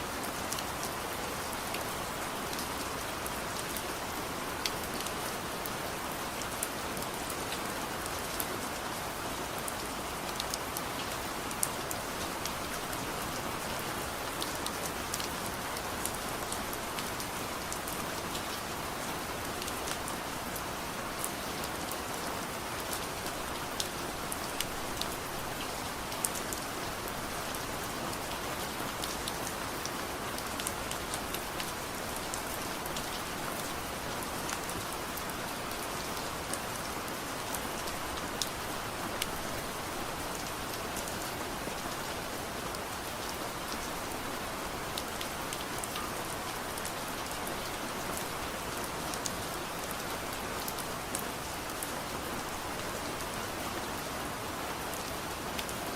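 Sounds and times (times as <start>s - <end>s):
soft rain falling: 0.0s - 55.9s.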